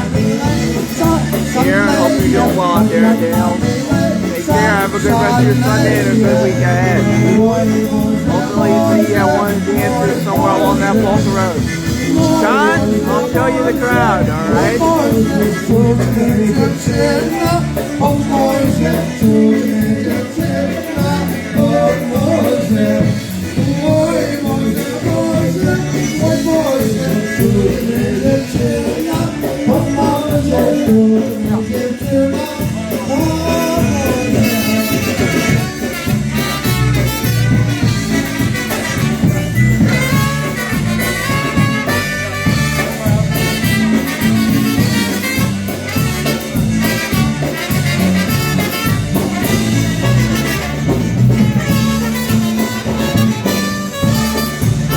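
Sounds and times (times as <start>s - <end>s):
polka band playing: 0.0s - 54.9s.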